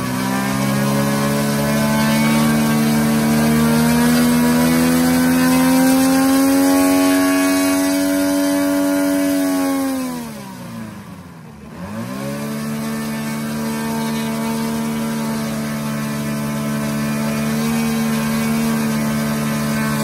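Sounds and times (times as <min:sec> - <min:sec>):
model airplane engine revving: 0:00.0 - 0:20.0.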